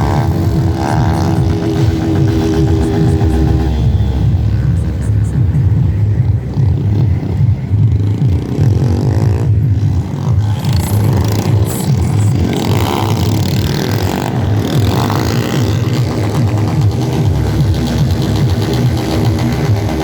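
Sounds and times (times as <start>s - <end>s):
loud bass-heavy music: 0.0s - 20.0s.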